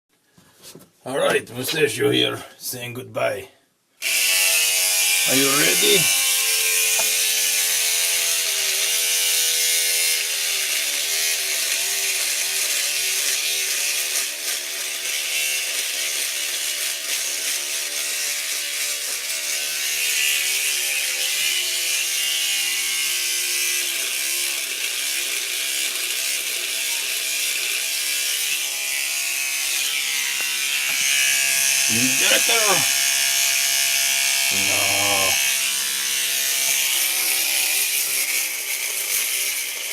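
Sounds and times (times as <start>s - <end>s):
electric razor buzzing: 4.0s - 39.9s.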